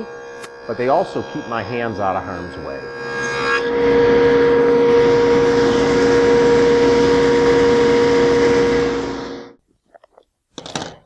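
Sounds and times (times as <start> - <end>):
table saw humming: 0.0 - 9.6.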